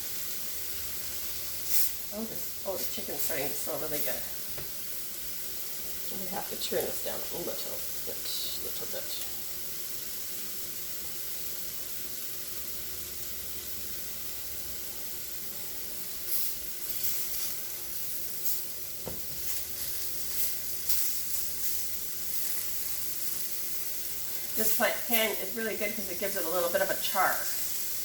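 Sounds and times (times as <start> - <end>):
chicken sizzling in a pan: 0.0 - 28.0.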